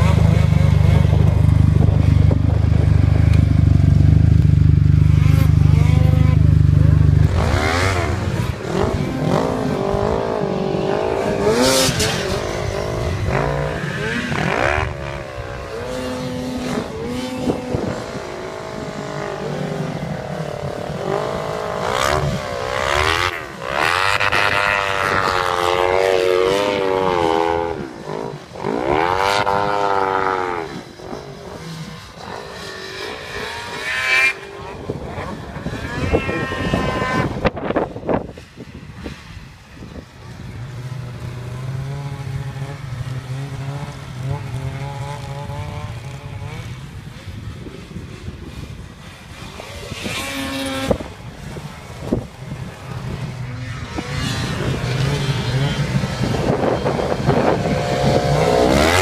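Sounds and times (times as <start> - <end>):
snowmobile engines revving: 0.0 - 59.0.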